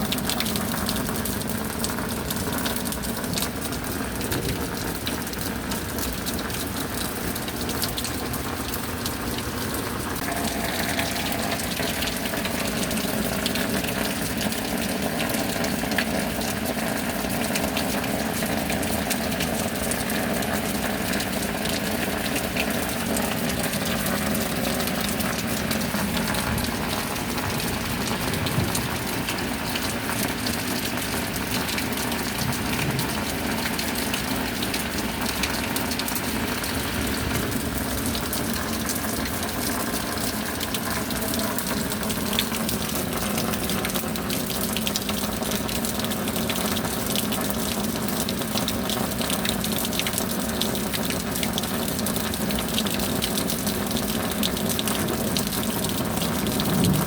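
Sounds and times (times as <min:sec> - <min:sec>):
steady rain: 0:00.0 - 0:57.0
water running: 0:00.0 - 0:57.0.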